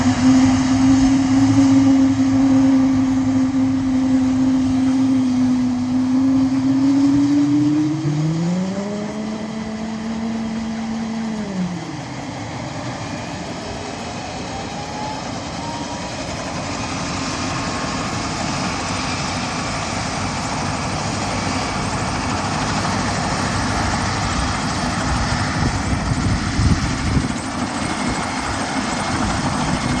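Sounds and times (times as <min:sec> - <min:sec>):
helicopter rotors rushing: 0:00.0 - 0:30.0
helicopter turbine whine: 0:00.0 - 0:30.0
rising second whine: 0:00.0 - 0:30.0.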